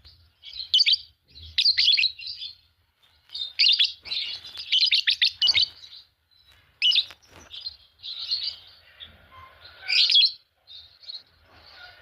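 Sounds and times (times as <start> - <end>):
soft bird chattering: 0.0 - 2.6, 3.2 - 12.0
lovebirds chirping: 0.0 - 12.0.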